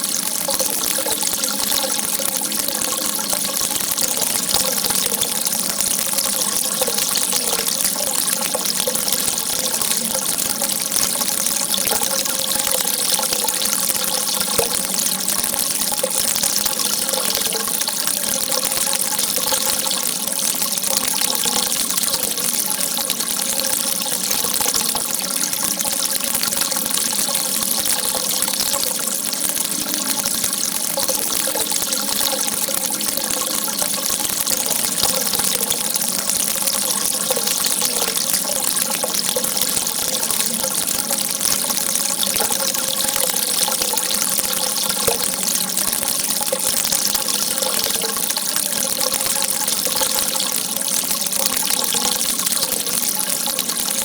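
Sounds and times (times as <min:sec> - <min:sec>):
faint water gurgle: 0:00.0 - 0:54.0
water jet splashing: 0:00.0 - 0:54.0.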